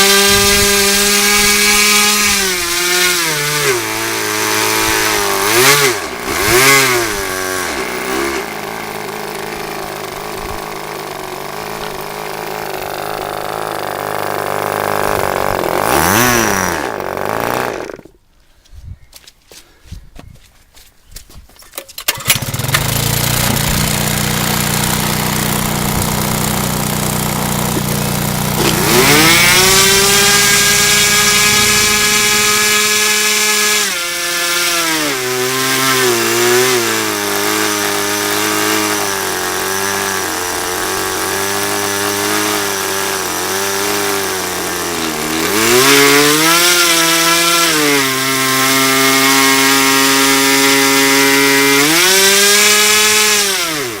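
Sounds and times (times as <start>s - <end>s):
model engine revving: 0.0s - 18.1s, 22.1s - 54.0s.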